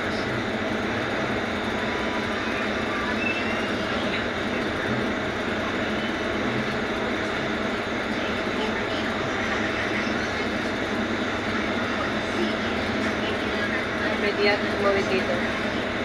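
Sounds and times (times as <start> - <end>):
traffic jam engines rumbling: 0.0 - 16.0.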